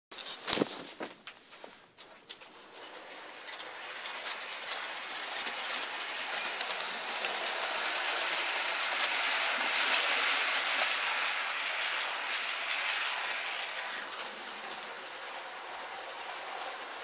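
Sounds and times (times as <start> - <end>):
model train wheels clattering on rails: 2.0 - 17.0.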